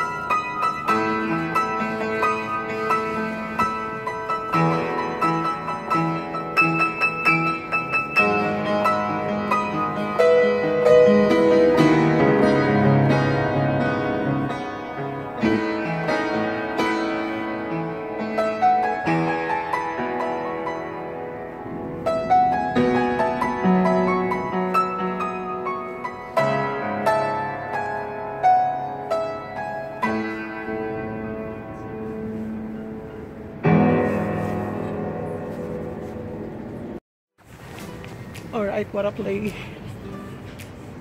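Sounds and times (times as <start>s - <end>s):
upright piano playing: 0.0s - 37.0s.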